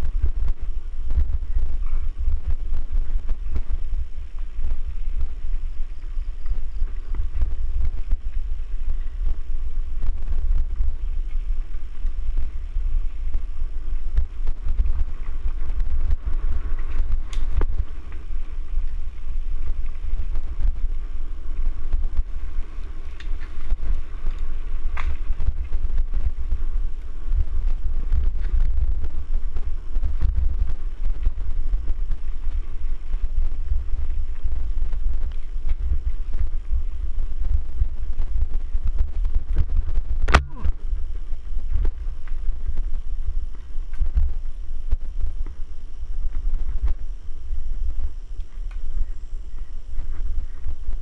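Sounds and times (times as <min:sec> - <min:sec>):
bike trail noise: 0:00.0 - 0:51.0
wind buffeting microphone: 0:00.0 - 0:51.0.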